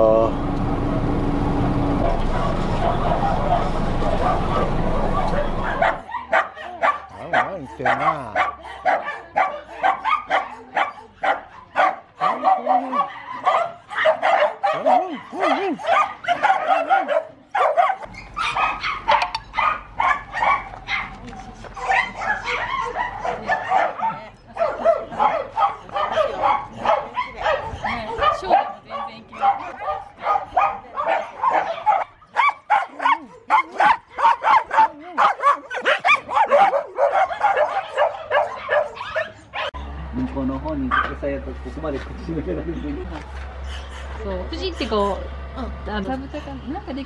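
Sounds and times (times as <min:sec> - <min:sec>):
dogs barking: 0:02.0 - 0:39.8, 0:40.8 - 0:41.4.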